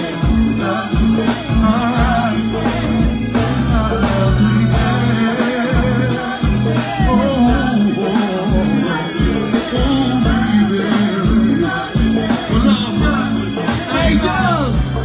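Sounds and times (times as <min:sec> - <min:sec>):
person singing: 0:00.0 - 0:14.8
bass line: 0:00.0 - 0:15.0
conga drums: 0:00.0 - 0:15.0
drum kit beating: 0:00.0 - 0:15.0.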